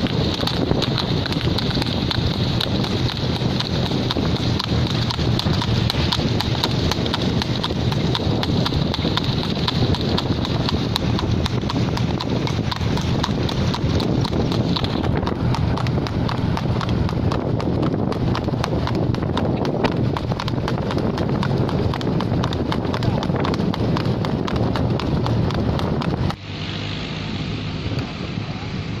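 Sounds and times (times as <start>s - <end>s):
horse hooves trotting on asphalt: 0.0s - 28.7s
steady low rumble: 0.0s - 29.0s.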